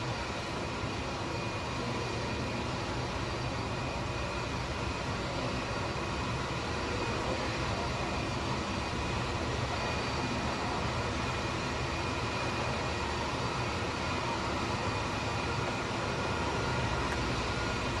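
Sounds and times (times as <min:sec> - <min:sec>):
jet engines idling with whine: 0:00.0 - 0:18.0.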